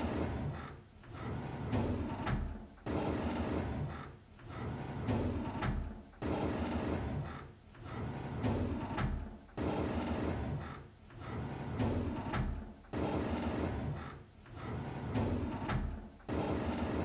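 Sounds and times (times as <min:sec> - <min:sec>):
drawer sliding with rumbling scrape: 0:00.0 - 0:17.0.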